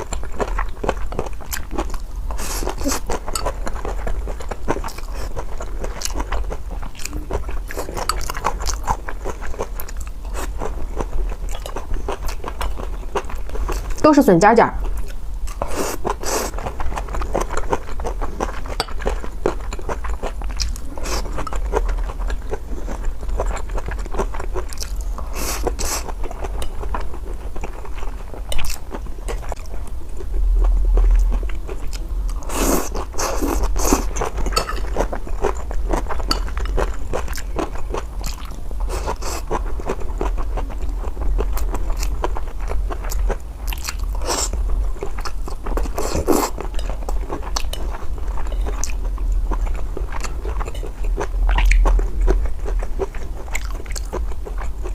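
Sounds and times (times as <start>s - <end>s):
chewing crunchy food: 0.0s - 14.0s, 14.8s - 54.9s
low steady hum: 0.0s - 54.9s.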